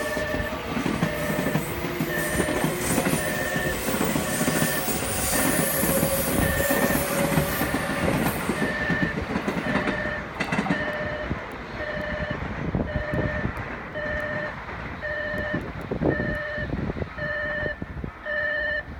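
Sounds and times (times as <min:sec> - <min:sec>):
repeating electronic warning beeps: 0:00.0 - 0:18.9
train rushing past: 0:00.0 - 0:18.9.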